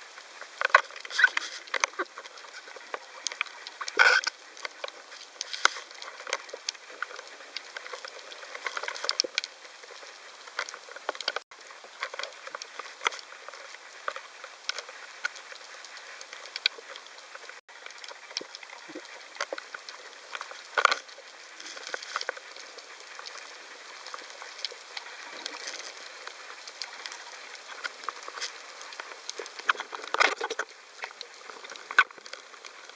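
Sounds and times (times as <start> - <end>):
snapping shrimp crackling underwater: 0.1 - 32.9.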